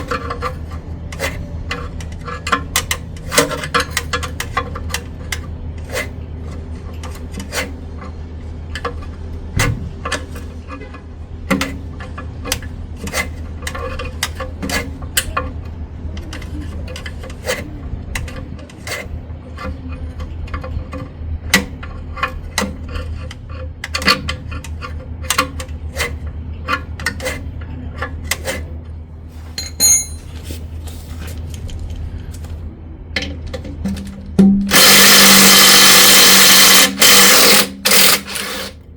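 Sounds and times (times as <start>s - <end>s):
steady low hum: 0.0s - 35.4s.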